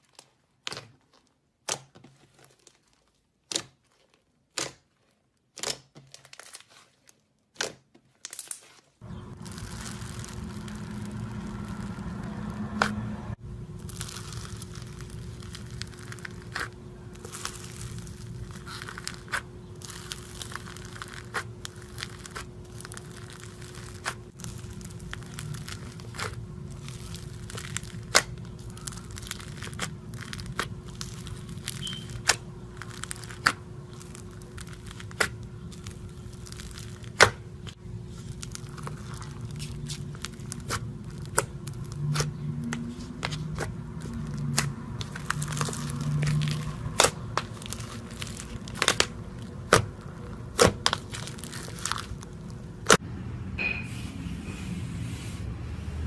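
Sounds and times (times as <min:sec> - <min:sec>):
slime crackling and popping: 0:00.0 - 0:53.0
low hum: 0:09.0 - 0:56.0.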